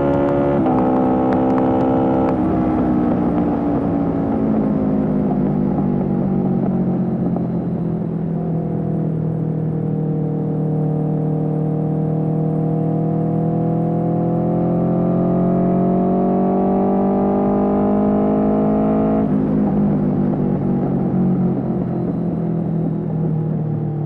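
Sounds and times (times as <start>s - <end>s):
motorcycle engine revving: 0.0s - 4.4s, 8.7s - 24.0s.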